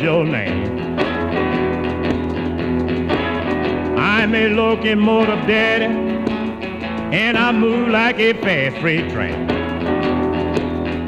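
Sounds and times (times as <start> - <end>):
blues song from vinyl record: 0.0 - 11.0
guitar playing: 0.0 - 11.0.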